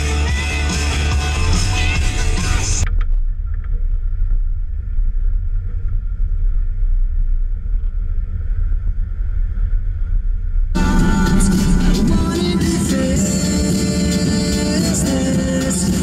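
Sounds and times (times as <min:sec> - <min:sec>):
off-road vehicle engine rumble: 0:00.0 - 0:16.0.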